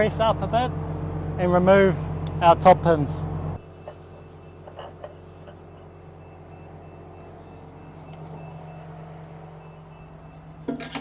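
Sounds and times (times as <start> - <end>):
machine engine running: 0.0 - 11.0.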